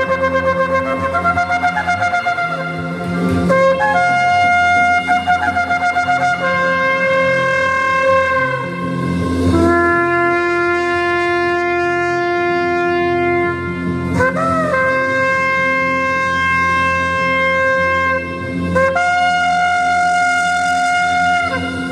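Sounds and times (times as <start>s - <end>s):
shofar blowing long notes: 0.0s - 21.9s.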